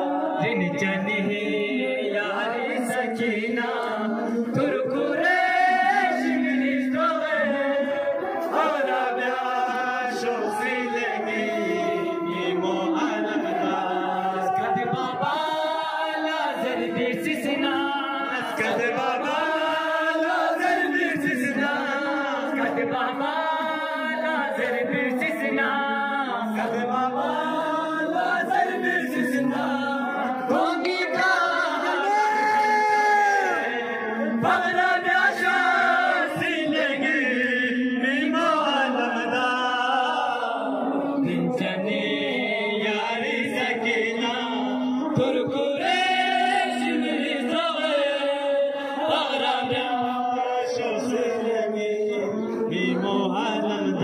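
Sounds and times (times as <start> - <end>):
men chanting over loudspeaker: 0.0 - 54.0.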